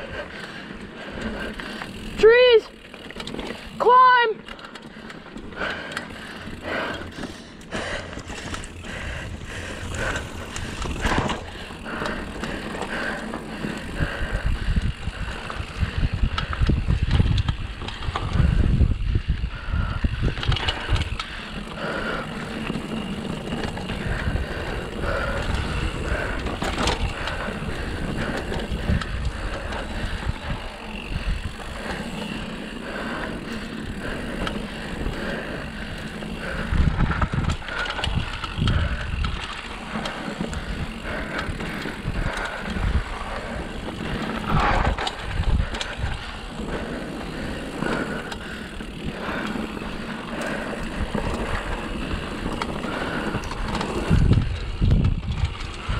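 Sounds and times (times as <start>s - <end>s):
bike rattling over bumps: 0.0s - 55.9s
bike tyres rolling over dirt: 0.0s - 55.9s.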